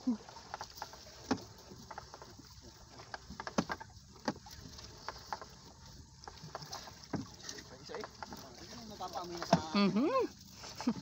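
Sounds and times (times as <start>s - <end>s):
net knocking and rustling on hull: 0.1s - 10.0s.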